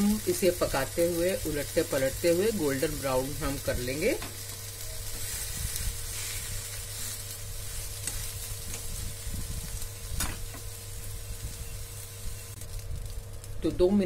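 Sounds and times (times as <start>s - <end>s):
batter sizzling in oil: 0.0s - 14.0s.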